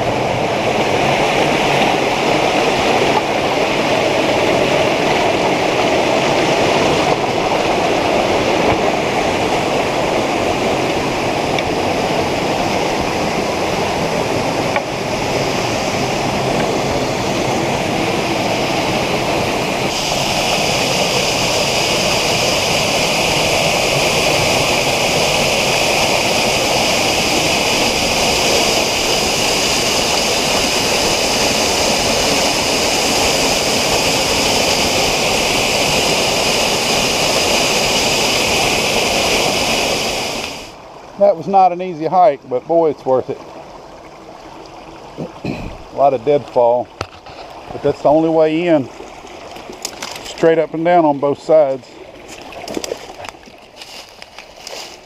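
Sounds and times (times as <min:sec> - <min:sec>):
waterfall rushing: 0:00.0 - 0:53.4.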